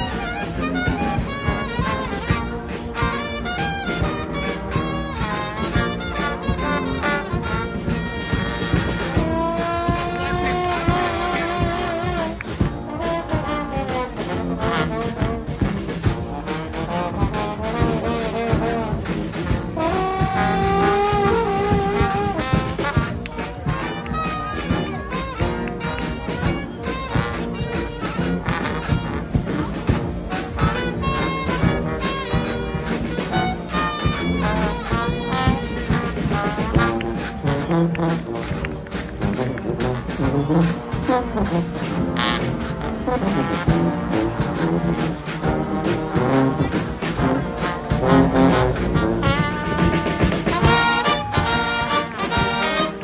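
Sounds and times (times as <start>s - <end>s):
bass drum and snare drums beat: 0.0s - 53.0s
brass band playing loudly: 0.0s - 53.0s.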